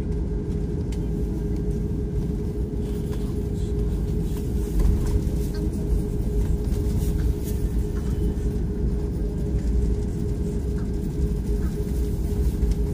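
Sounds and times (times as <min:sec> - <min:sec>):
airplane cabin engine rumble: 0:00.0 - 0:12.9.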